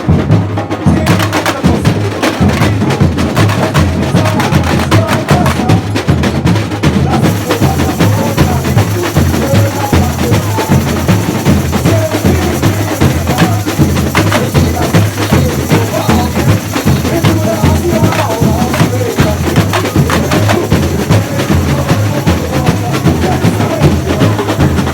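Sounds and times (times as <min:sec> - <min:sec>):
deep bass drums beating: 0:00.0 - 0:24.9
fast snare and percussion strokes: 0:00.0 - 0:24.9.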